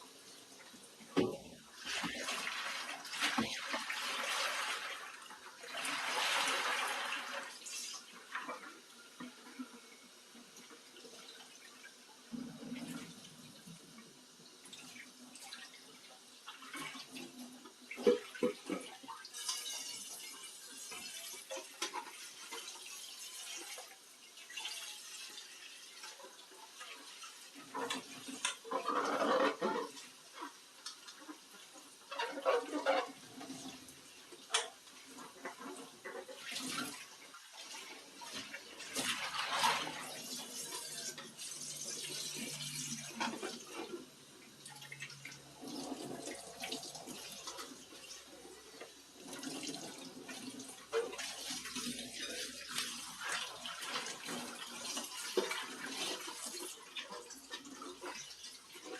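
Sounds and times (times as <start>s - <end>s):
kitchen tap running: 0.5s - 9.1s, 10.8s - 58.9s.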